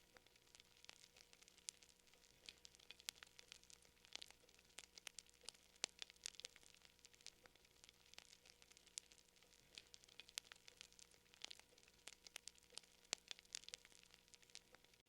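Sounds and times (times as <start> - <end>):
faint steady hum: 0.0 - 15.0
wood fire crackling and popping: 0.0 - 15.0.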